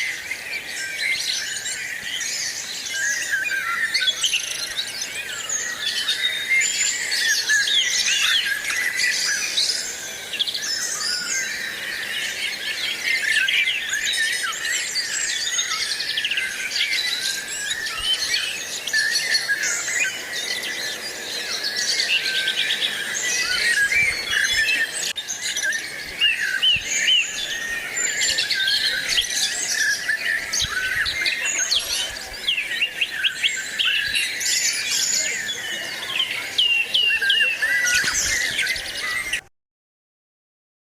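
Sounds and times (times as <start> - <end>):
small birds chirping: 0.0 - 39.5.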